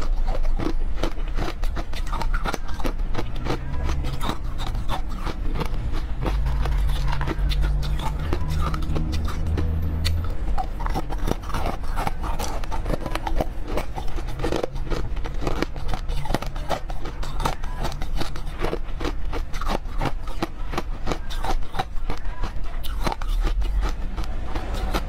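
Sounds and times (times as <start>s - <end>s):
crunching frozen cubes: 0.0s - 25.0s.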